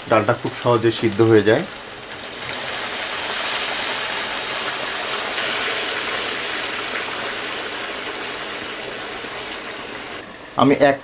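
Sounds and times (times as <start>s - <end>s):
hot water pouring into a pan: 0.0s - 10.3s.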